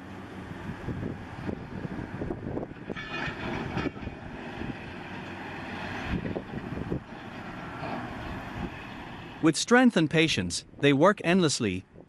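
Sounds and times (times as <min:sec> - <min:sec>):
diesel engine under load: 0:00.0 - 0:10.8.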